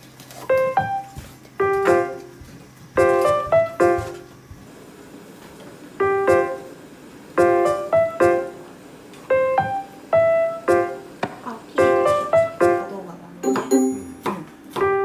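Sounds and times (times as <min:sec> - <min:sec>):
piano chords: 0:00.4 - 0:04.6, 0:06.0 - 0:15.0.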